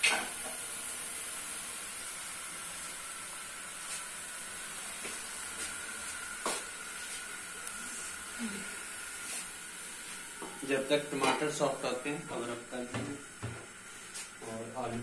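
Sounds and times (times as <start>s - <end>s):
curry sizzling in a pot: 0.0s - 15.0s.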